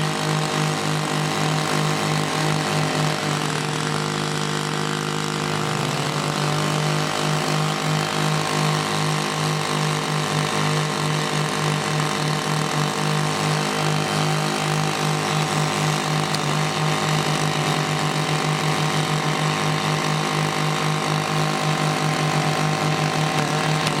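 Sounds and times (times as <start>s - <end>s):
core drill motor throbbing: 0.0s - 24.0s.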